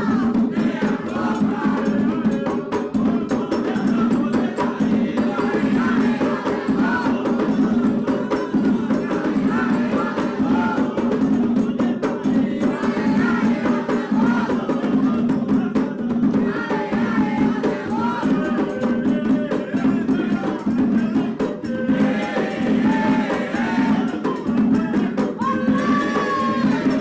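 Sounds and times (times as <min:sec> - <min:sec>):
drums and rattling percussion: 0:00.0 - 0:27.0
group singing a chant: 0:00.0 - 0:27.0.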